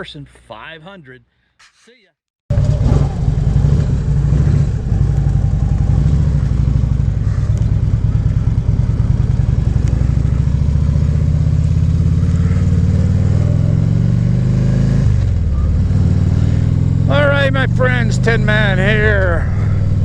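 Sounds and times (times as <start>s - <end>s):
motorcycle engine accelerating: 2.5s - 20.0s.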